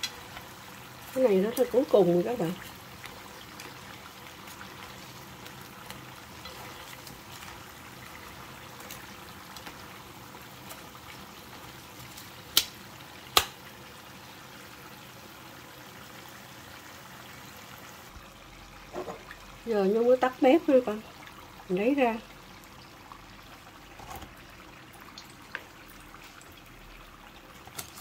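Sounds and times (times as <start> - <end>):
hot oil sizzling and bubbling: 0.0 - 28.0.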